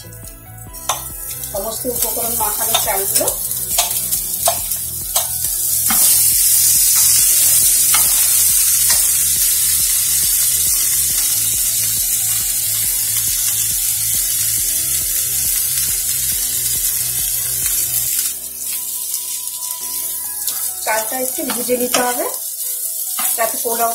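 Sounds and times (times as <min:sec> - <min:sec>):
rice sizzling in a pan: 0:00.0 - 0:23.9.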